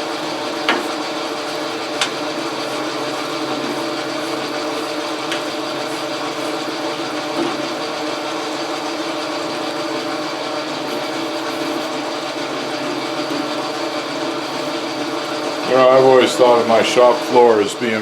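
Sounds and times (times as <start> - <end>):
metal lathe gear whine: 0.0 - 18.0.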